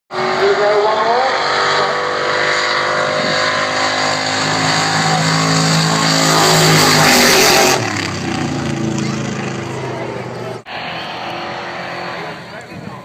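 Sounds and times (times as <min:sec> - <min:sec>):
loud engine running: 0:00.1 - 0:13.0.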